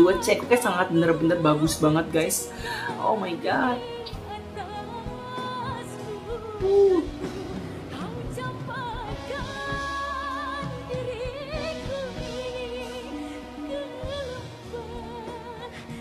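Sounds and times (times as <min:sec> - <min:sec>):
woman singing a slow song: 0:00.0 - 0:16.0.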